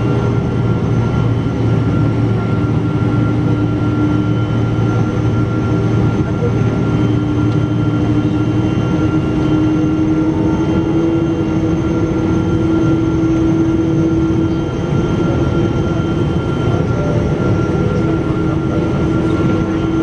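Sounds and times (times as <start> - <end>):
airliner cabin engine drone: 0.0 - 20.0.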